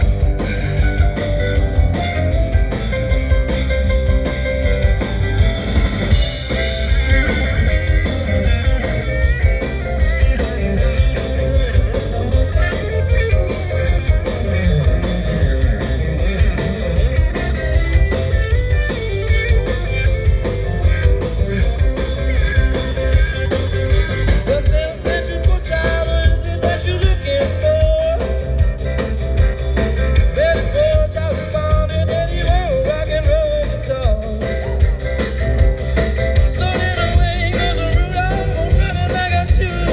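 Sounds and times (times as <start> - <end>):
electric guitar lead line: 0.0 - 39.9
live rock band playing: 0.0 - 39.9.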